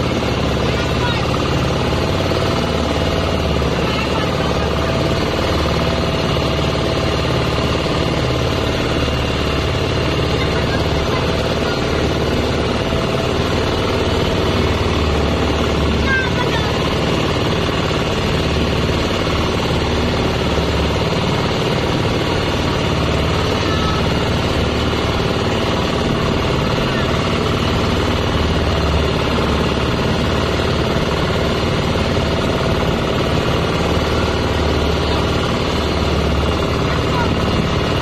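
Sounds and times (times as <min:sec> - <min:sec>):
motorboat engine running: 0:00.0 - 0:38.0.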